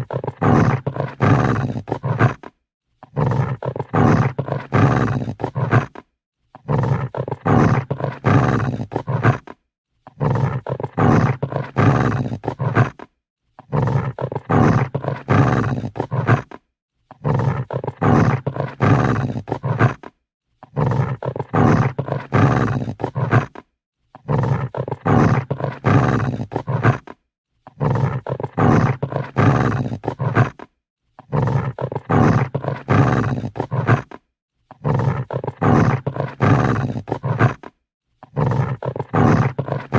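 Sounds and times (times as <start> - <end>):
dog growling: 0.0 - 39.9.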